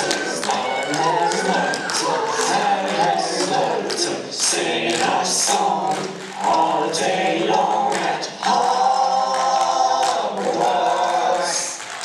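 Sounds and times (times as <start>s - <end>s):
a cappella voices singing: 0.0s - 12.0s.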